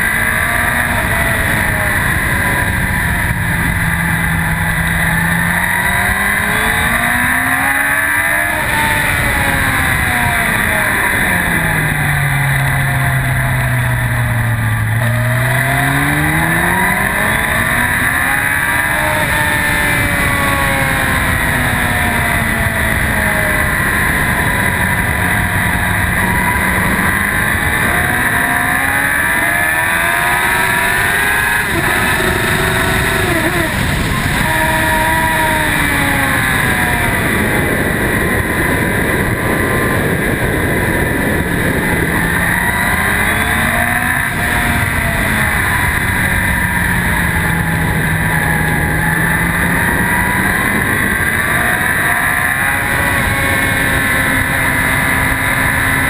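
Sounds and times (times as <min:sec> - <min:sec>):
motorcycle engine revving: 0:00.0 - 0:56.0
wind rush: 0:08.5 - 0:56.0.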